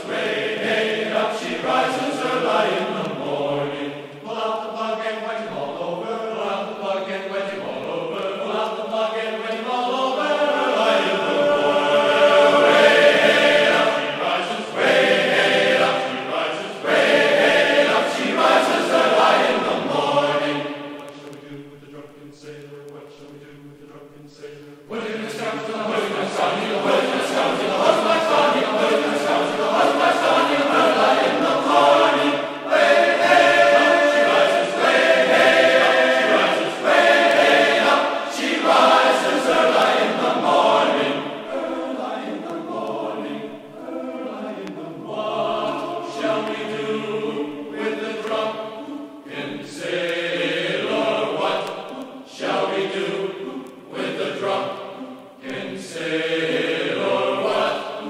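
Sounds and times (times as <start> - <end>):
choral music: 0.0 - 58.0.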